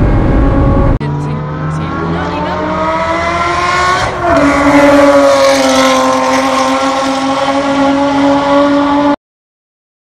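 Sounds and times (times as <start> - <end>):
car engine at high revs: 0.0 - 9.2.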